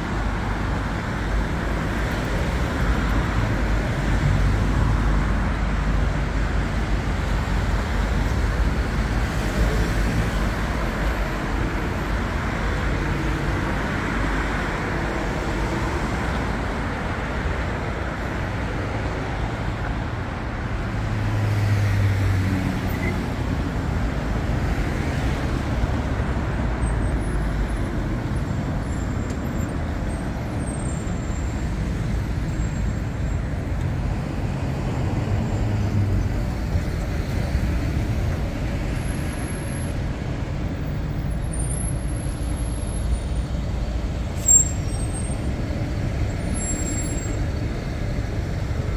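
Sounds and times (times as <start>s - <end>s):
road traffic rumble: 0.0s - 48.9s.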